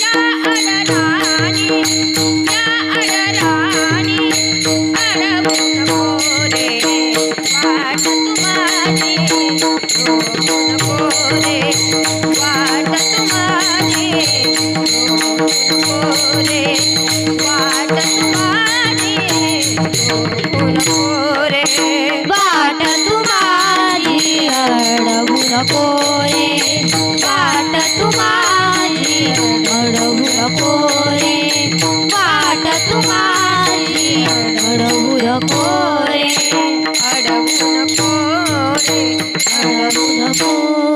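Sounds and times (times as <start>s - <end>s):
hand cymbals jingling: 0.0s - 40.9s.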